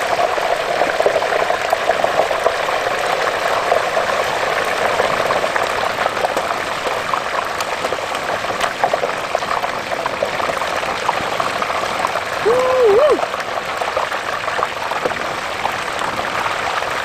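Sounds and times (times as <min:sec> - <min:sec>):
hot oil bubbling and crackling: 0:00.0 - 0:17.0.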